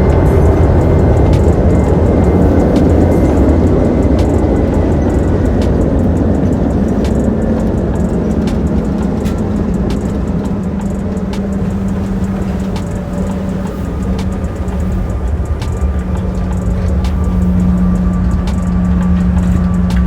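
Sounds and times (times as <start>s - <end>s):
light ticks: 0.0s - 20.0s
vehicle low rumble: 0.0s - 20.0s.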